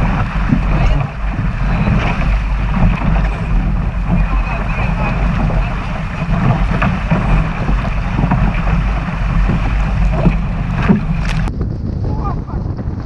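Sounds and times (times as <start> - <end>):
water splashing along hull: 0.0 - 13.0
wind buffeting microphone: 0.0 - 13.0.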